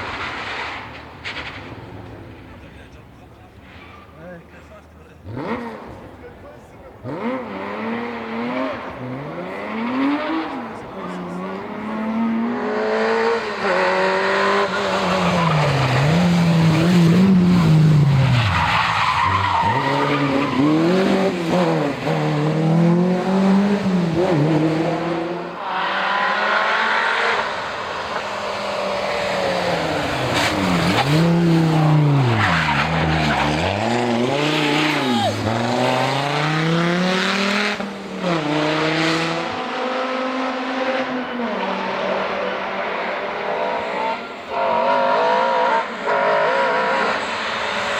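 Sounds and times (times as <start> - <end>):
rally car engines revving: 0.0 - 47.9
tyres skidding: 0.0 - 47.9.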